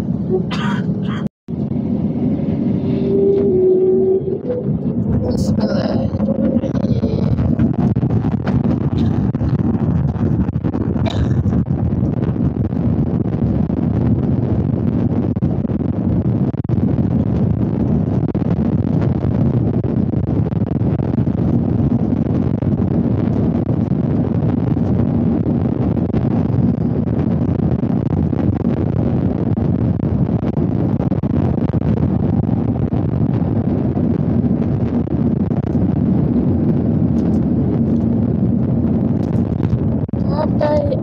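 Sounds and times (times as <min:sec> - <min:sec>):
jet engines rushing from inside cabin: 0:00.0 - 0:41.0.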